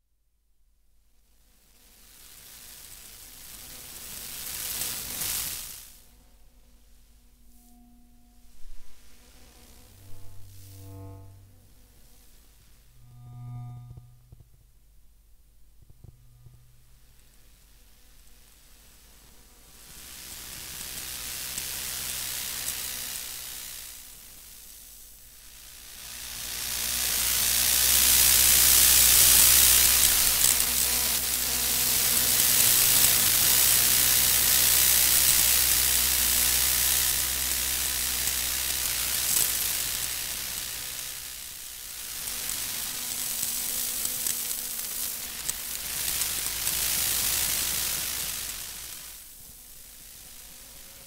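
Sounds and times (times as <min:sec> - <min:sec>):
electronic hiss: 0:01.2 - 0:51.0
low electrical hum: 0:06.0 - 0:51.0.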